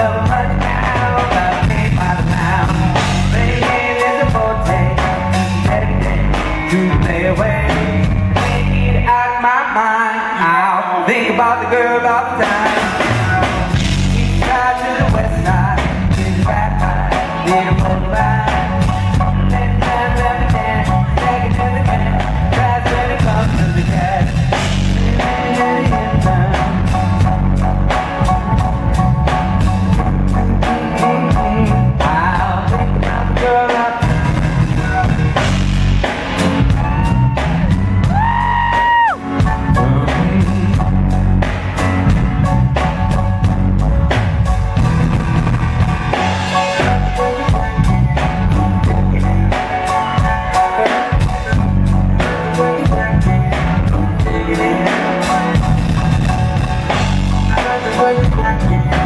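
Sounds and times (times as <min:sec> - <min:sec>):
drum kit: 0:00.0 - 0:09.3, 0:12.1 - 0:59.0
person singing: 0:00.0 - 0:41.2, 0:46.1 - 0:59.0
bass: 0:00.0 - 0:59.0
guitar: 0:00.0 - 0:59.0.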